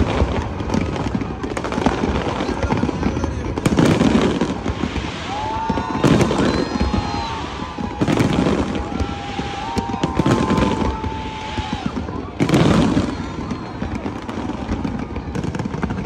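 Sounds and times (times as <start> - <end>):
fireworks bangs: 0.0 - 16.0
fireworks rumble and crackle: 0.0 - 16.0.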